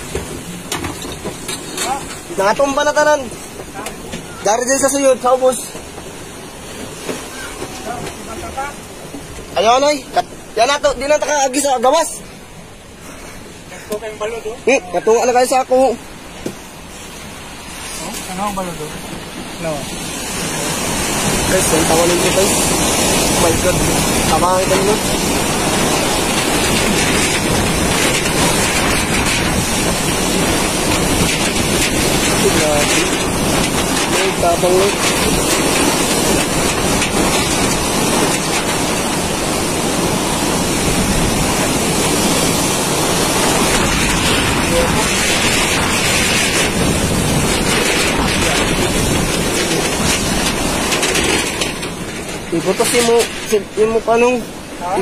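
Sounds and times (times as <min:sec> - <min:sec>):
driving rain: 0:00.0 - 0:55.0
strong wind buffeting microphone: 0:00.0 - 0:55.0.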